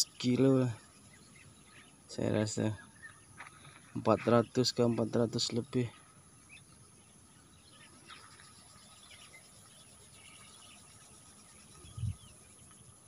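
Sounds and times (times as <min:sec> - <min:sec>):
faint bird chirps: 0:00.0 - 0:13.0
faint insect buzz: 0:00.0 - 0:13.0.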